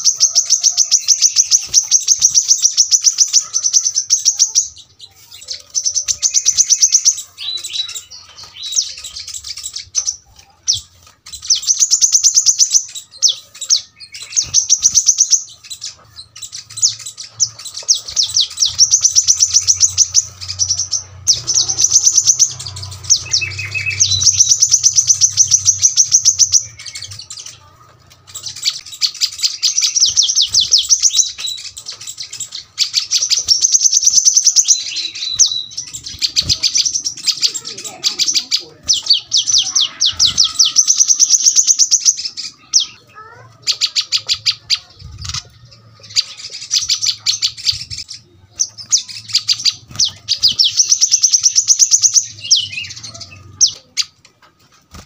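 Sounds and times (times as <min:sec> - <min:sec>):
bird singing trilled phrases: 0:00.0 - 0:55.0.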